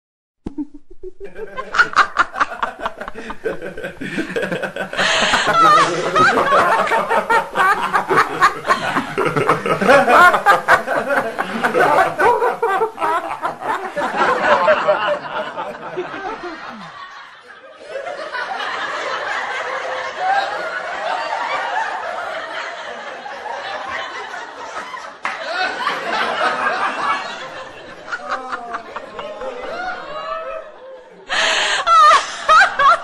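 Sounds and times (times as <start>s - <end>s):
people laughing: 1.0s - 33.0s.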